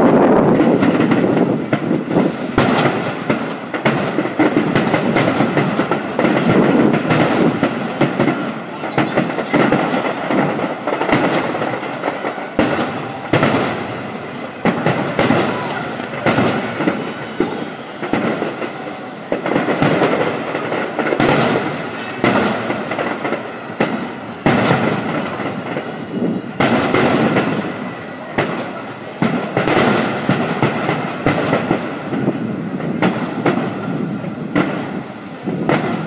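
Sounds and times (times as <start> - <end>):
firework shells bursting: 0.0 - 36.0
rumble of overlapping explosions: 0.0 - 36.0.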